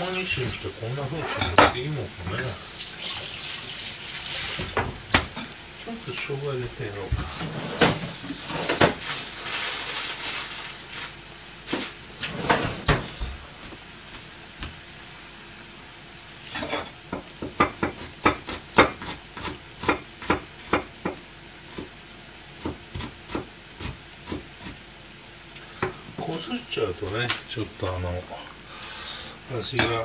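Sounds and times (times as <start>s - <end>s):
simmering pan hiss: 0.0s - 30.0s.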